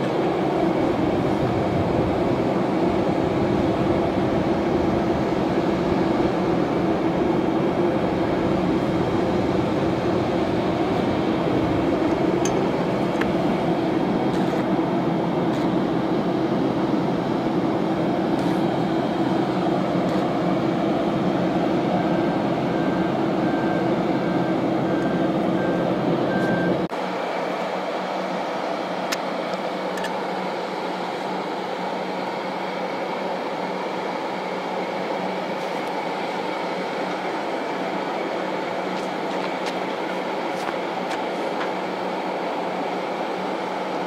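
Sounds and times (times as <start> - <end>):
aircraft turbine drone: 0.0 - 44.0.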